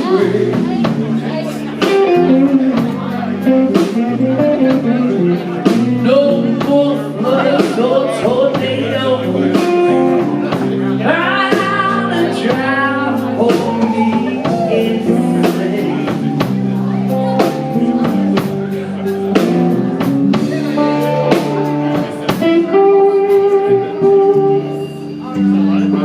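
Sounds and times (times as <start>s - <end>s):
electric guitar lead with bent notes: 0.0s - 26.0s
live blues band playing: 0.0s - 26.0s.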